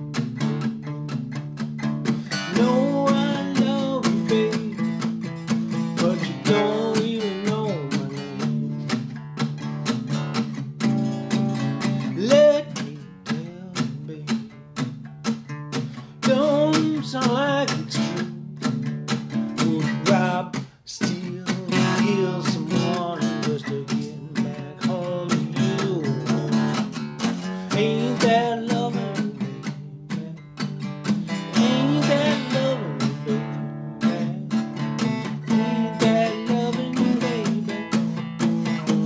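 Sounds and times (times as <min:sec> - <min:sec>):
acoustic guitar strumming blues: 0:00.0 - 0:39.0
man singing: 0:02.2 - 0:09.0, 0:11.8 - 0:14.8, 0:16.1 - 0:39.0.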